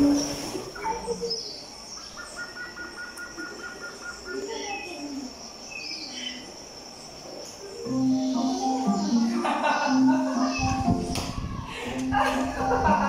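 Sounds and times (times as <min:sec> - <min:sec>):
insects whining: 0:00.0 - 0:11.7
birds chirping: 0:00.0 - 0:11.8.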